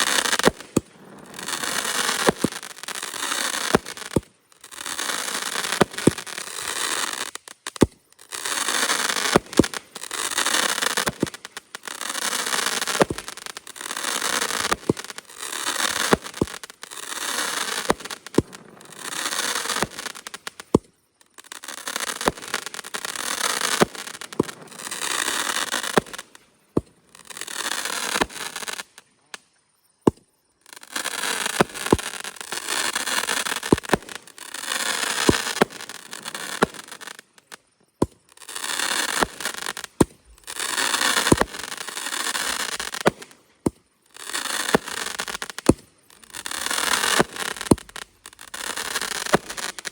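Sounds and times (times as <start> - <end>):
firework bangs: 0.0 - 4.3, 8.6 - 20.8, 22.0 - 28.8, 30.9 - 37.3, 38.0 - 49.9
firework crackling: 0.0 - 29.1, 30.7 - 49.9.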